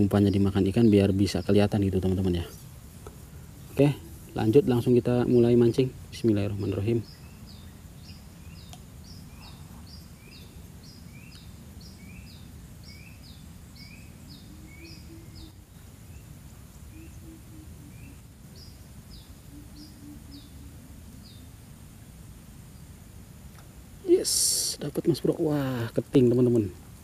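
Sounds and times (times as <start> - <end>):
bird calling: 0.0 - 21.8.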